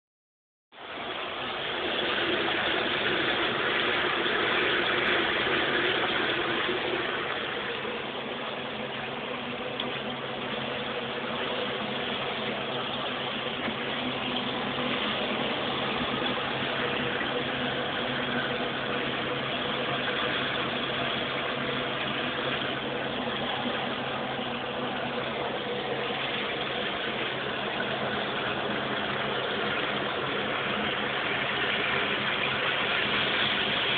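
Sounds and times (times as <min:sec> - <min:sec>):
motor humming: 0:01.1 - 0:33.9.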